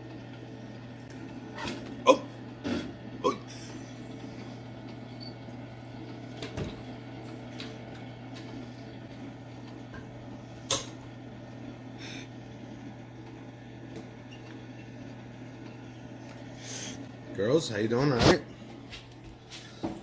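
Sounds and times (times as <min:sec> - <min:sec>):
popcorn machine humming: 0:00.0 - 0:20.0.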